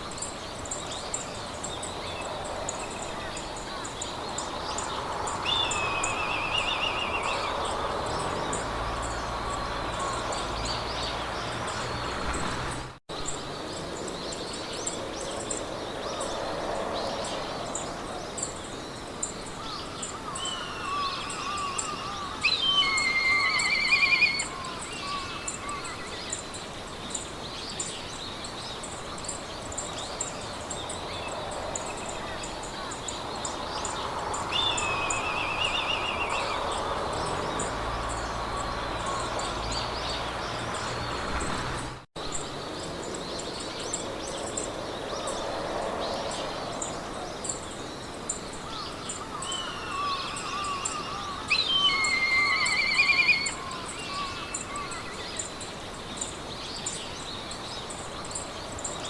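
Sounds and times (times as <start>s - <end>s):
songbirds singing: 0.0s - 59.0s
wind in grass: 0.0s - 59.0s.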